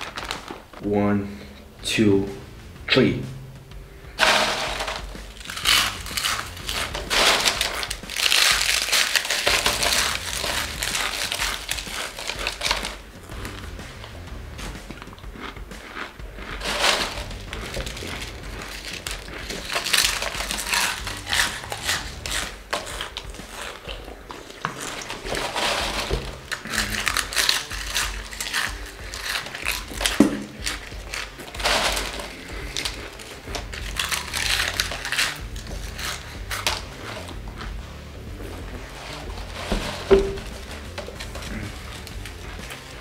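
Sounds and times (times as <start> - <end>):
hands rustling through chips: 0.0 - 0.8, 4.2 - 14.0, 15.9 - 37.8, 38.8 - 43.0
chips crunched and chewed: 4.2 - 14.1, 14.9 - 37.8, 40.6 - 43.0.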